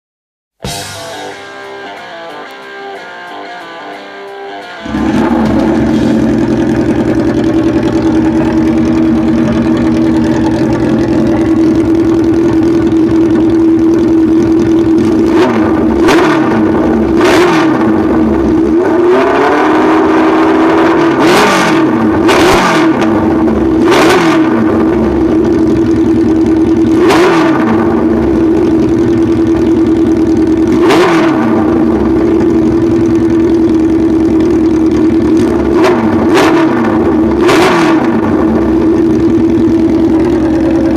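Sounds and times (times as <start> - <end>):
motorcycle engine idling and revving: 4.8 - 40.9.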